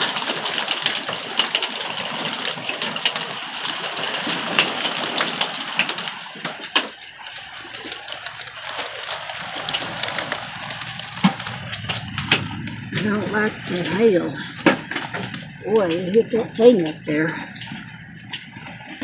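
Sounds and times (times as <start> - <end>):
hailstones ticking on a roof: 0.0 - 19.0
rain on a roof: 0.0 - 19.0.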